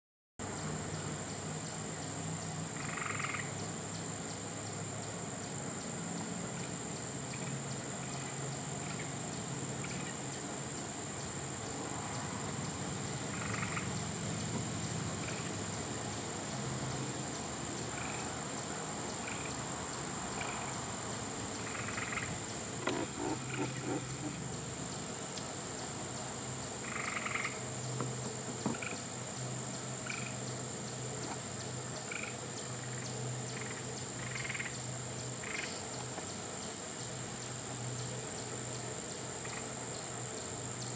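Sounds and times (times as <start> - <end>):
frogs croaking: 0.4 - 40.9
high-pitched insect trill: 0.4 - 40.9.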